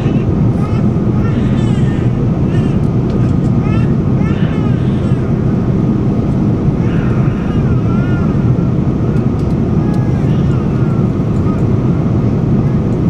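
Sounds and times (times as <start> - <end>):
airliner engine and airflow roar: 0.0 - 13.0
faint passenger voices: 0.0 - 13.0.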